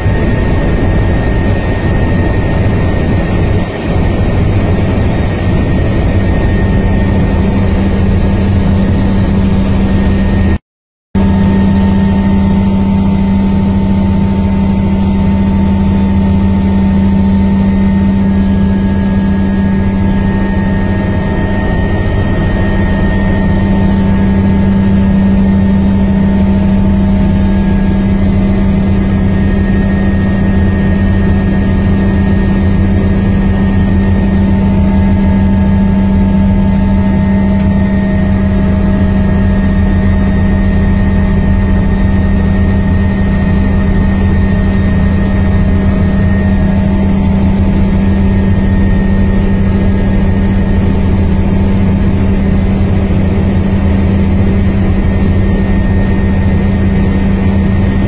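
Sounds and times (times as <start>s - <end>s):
helicopter drone in cabin: 0.0s - 10.6s, 11.2s - 58.0s
high whine: 0.0s - 10.6s, 11.2s - 58.0s.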